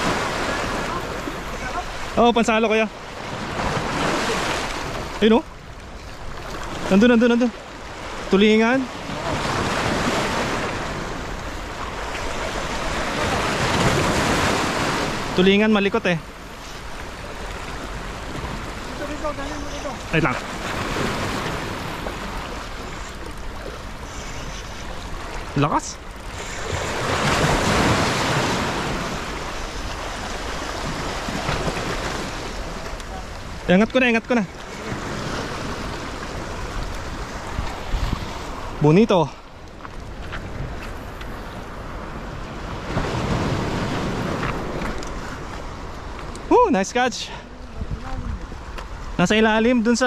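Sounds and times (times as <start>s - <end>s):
sea surf on rocky shore: 0.0s - 50.0s.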